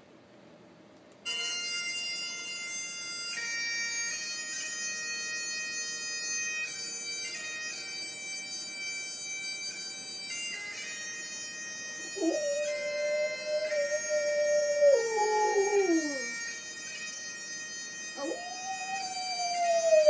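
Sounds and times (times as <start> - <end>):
bagpipe music: 1.2 - 20.0.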